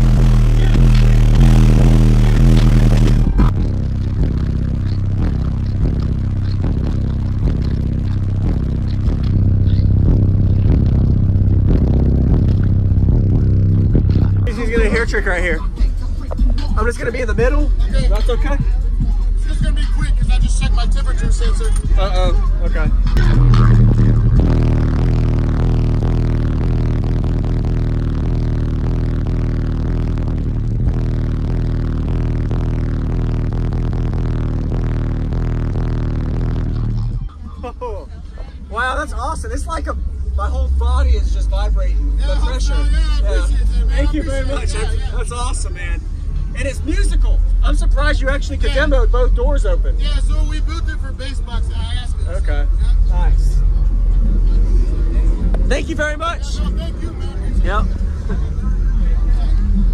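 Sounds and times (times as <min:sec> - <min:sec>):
bass-heavy music on subwoofers: 0:00.0 - 0:59.9.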